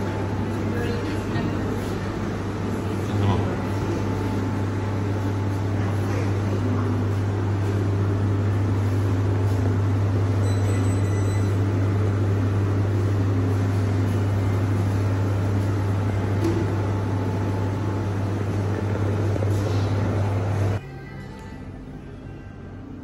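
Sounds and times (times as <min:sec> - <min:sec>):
machine humming: 0:00.0 - 0:23.0.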